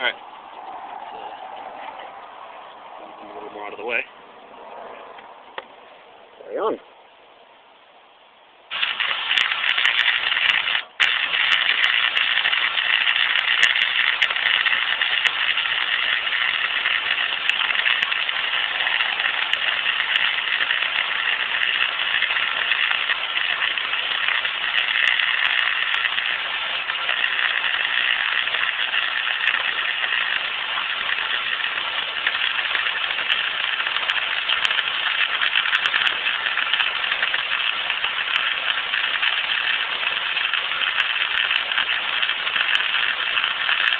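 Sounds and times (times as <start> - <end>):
welding arc crackling hiss: 8.7 - 43.9.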